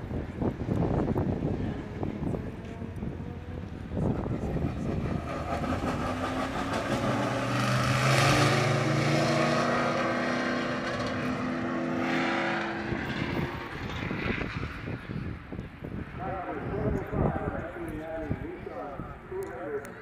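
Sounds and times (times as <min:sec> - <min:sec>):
race cars passing: 0:00.0 - 0:20.0.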